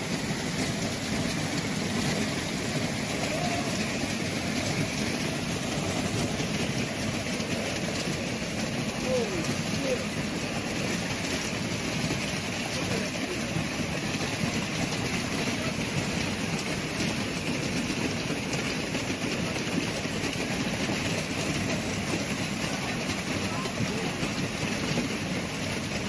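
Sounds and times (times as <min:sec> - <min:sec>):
hailstones pelting cars and roofs: 0:00.0 - 0:26.0.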